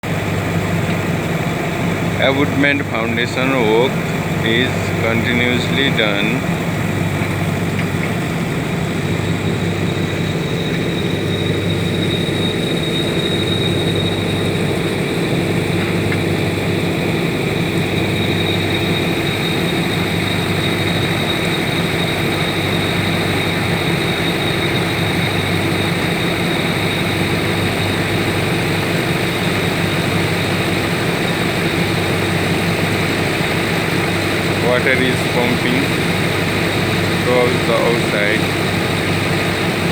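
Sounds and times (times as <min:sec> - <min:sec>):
generator engine hum: 0:00.0 - 0:39.9.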